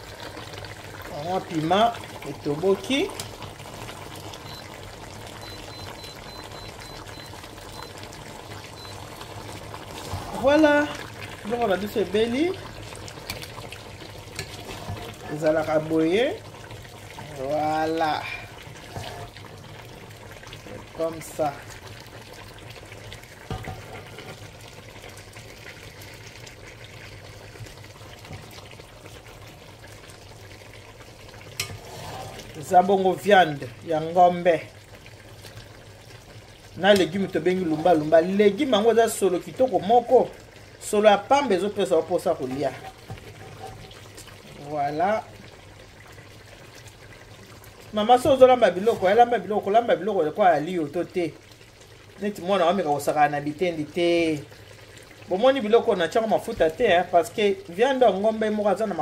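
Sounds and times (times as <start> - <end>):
stew bubbling in a pan: 0.0 - 59.0.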